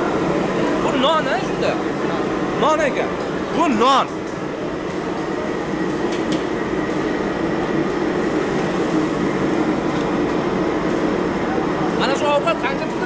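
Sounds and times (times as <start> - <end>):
busy kitchen roar: 0.0 - 13.0.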